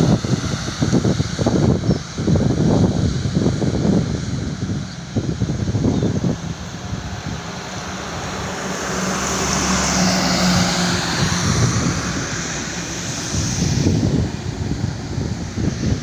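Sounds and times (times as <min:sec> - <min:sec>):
vehicle passing on a highway: 0:00.0 - 0:16.0
wind on the microphone: 0:00.0 - 0:16.0.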